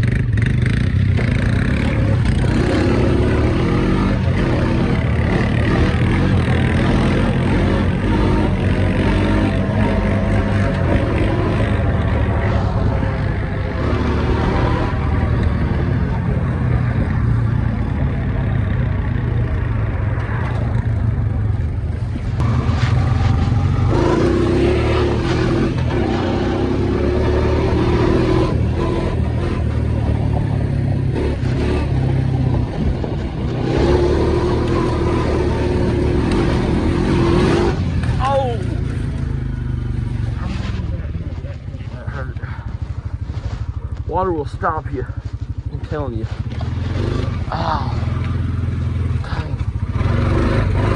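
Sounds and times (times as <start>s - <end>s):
atv engine under throttle: 0.0s - 50.9s.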